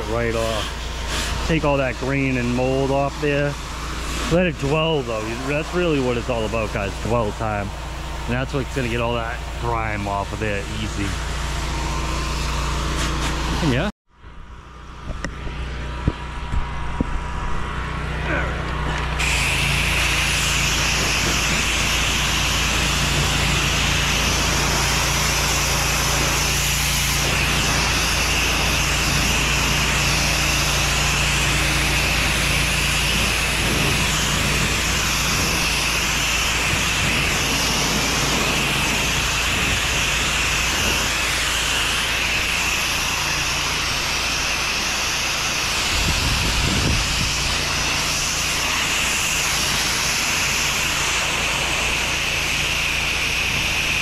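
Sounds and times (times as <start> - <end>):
pressure washer water hiss: 0.0 - 13.9, 19.1 - 54.0
machine hum: 0.0 - 54.0.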